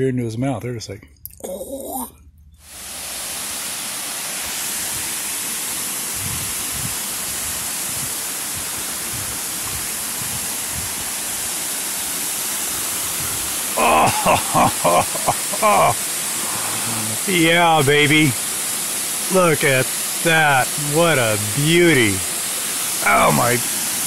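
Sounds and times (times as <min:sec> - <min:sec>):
flowing water rushing: 0:02.7 - 0:24.0.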